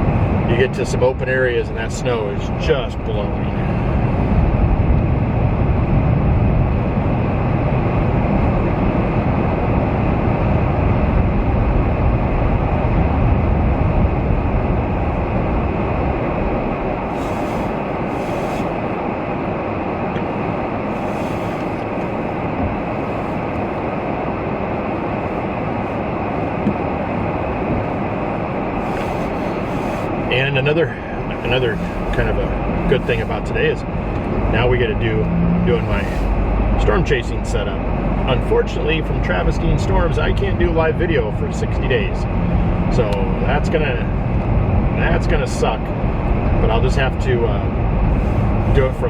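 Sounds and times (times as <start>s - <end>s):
road noise inside vehicle: 0.0s - 49.0s
strong blizzard winds: 0.0s - 49.0s.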